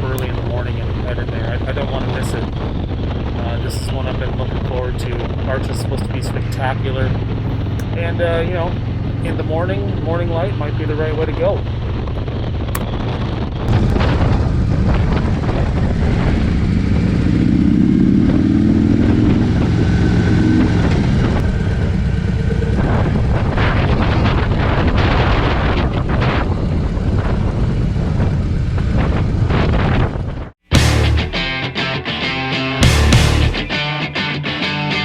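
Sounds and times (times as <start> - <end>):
motorcycles riding at speed: 0.0 - 31.0.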